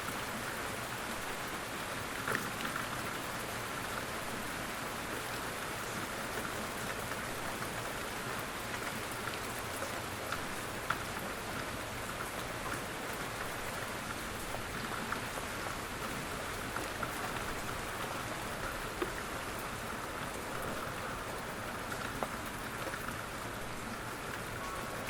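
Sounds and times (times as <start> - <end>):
light rain patter: 0.0 - 25.0.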